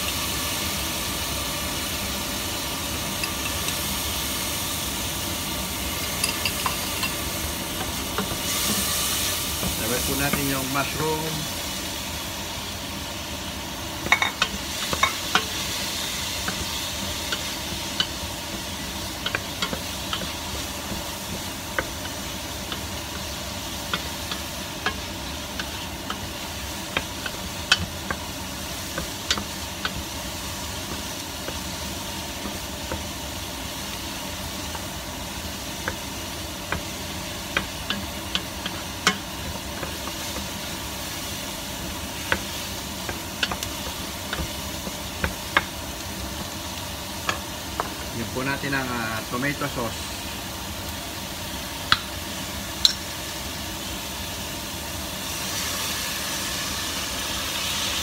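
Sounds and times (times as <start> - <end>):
food sizzling in pot: 0.0 - 58.0.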